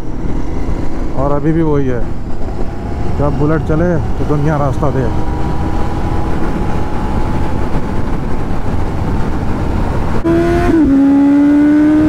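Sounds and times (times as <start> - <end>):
motorcycle engine accelerating: 0.0 - 12.0
road rumble: 0.0 - 12.0
wind: 0.0 - 12.0.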